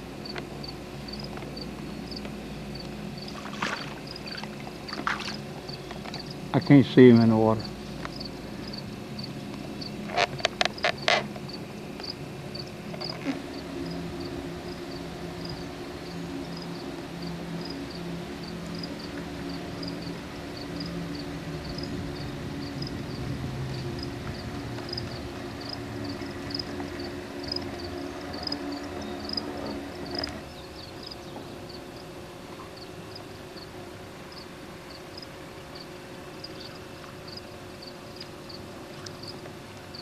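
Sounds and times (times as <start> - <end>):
low motor hum: 0.0 - 40.0.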